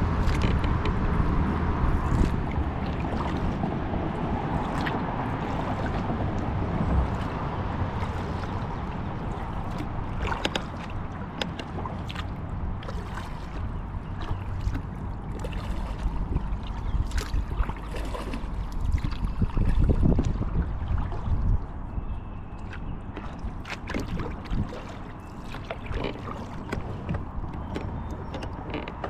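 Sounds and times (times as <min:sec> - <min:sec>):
water splashing and dripping: 0:00.0 - 0:21.9, 0:22.5 - 0:29.0
steady low rumble: 0:00.0 - 0:25.0.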